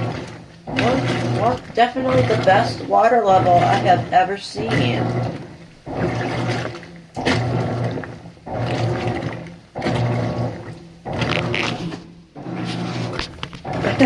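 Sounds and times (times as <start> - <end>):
washing machine motor humming: 0.0 - 14.0
water sloshing in washer: 0.0 - 14.0.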